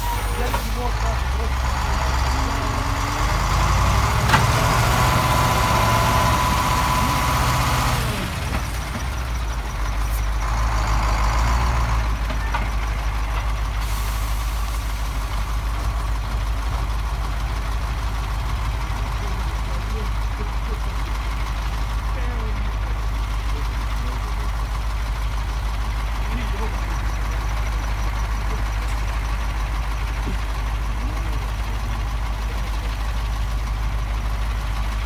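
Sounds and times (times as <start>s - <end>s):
heavy vehicle engine rumbling: 0.0s - 35.0s.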